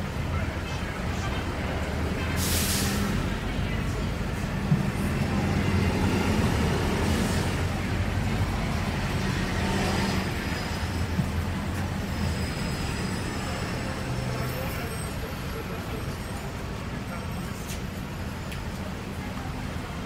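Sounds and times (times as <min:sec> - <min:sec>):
pedestrian crowd bustle: 0:00.0 - 0:20.0
traffic noise: 0:00.0 - 0:20.0.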